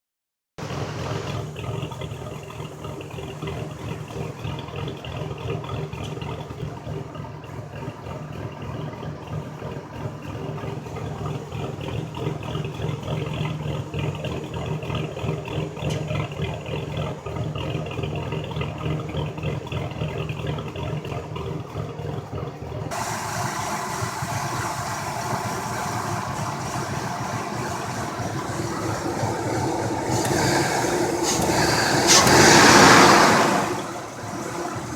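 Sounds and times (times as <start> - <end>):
truck engine idling: 0.6 - 34.9.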